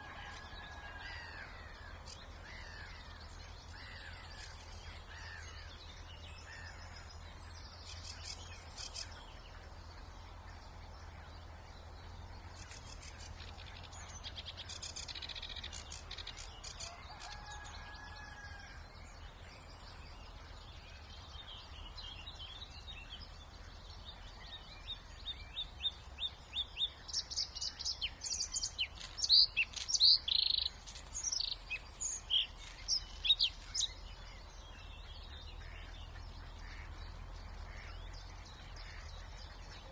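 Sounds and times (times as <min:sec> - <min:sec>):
bird singing close: 0:00.0 - 0:39.9
faint birdsong: 0:00.0 - 0:39.9.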